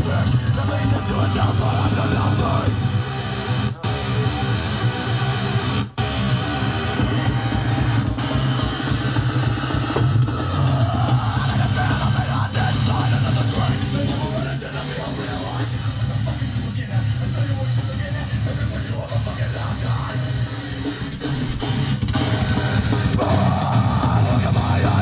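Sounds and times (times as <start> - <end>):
rock music through small speaker: 0.0 - 25.0.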